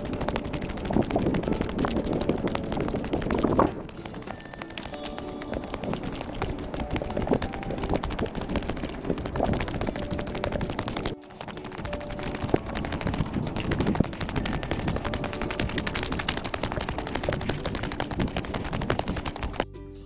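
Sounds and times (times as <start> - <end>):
dry grass rustling against camera: 0.0 - 19.6.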